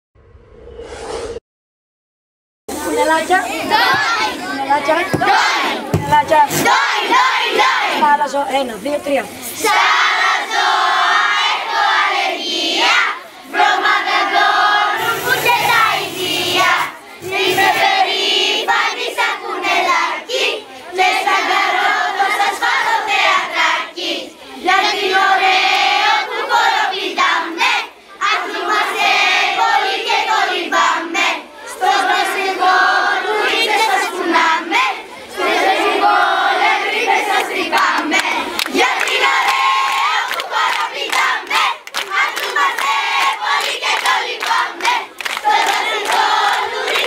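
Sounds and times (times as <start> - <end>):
children chanting a cheer: 2.8 - 8.0, 9.4 - 47.0.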